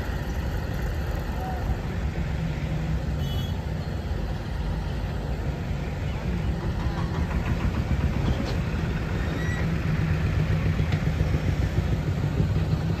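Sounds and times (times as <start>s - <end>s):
diesel engines rumbling: 0.0s - 13.0s.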